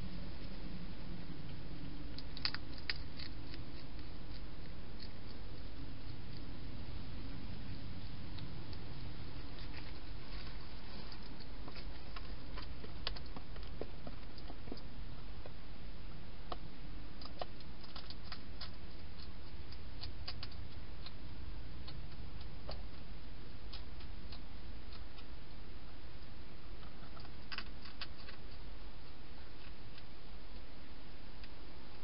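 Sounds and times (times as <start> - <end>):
low background hiss: 0.0 - 32.0
hedgehog crunching dry food: 1.4 - 15.6, 16.5 - 30.7.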